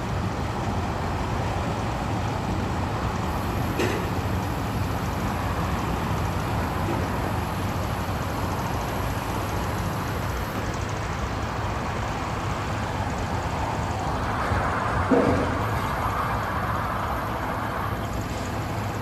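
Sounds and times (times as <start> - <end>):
crane diesel engine running: 0.0 - 19.0.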